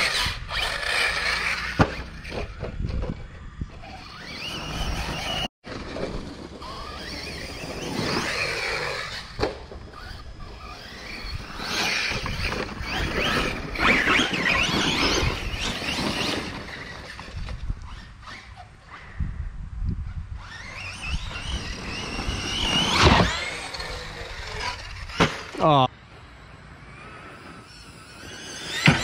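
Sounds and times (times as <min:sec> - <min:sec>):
tyres on loose dirt: 0:00.0 - 0:19.2, 0:20.0 - 0:29.0
rc truck motors whining: 0:00.0 - 0:29.0.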